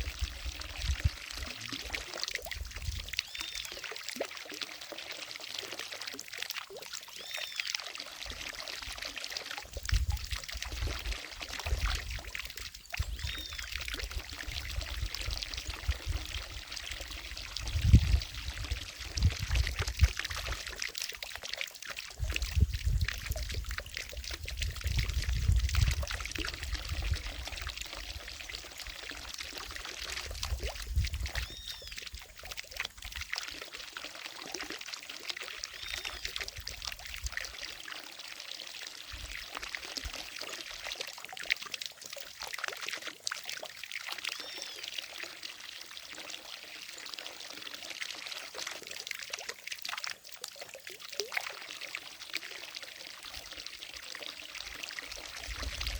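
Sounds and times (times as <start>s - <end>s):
fountain water splashing: 0.0s - 55.9s.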